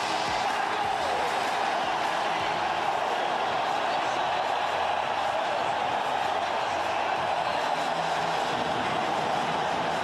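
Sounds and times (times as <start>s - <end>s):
arena crowd voices: 0.0s - 10.0s.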